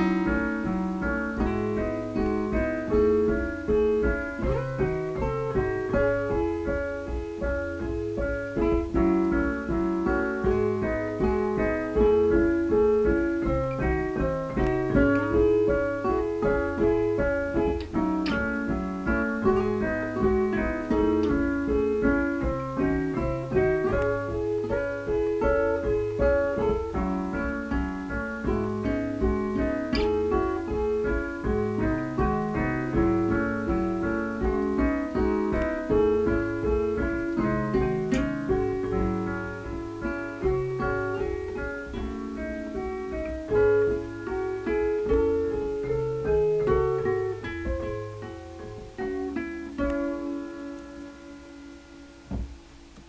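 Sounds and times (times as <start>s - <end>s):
piano and plucked guitar music: 0.0s - 53.0s.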